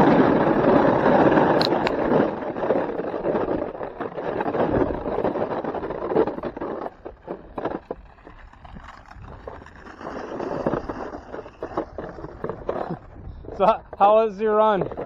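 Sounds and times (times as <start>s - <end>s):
snowboard scraping over icy snow: 0.0s - 15.0s.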